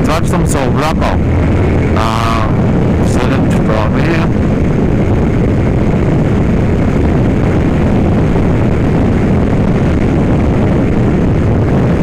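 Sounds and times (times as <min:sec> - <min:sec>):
motorcycle engine: 0:00.0 - 0:11.3
wind buffeting microphone: 0:00.0 - 0:12.0.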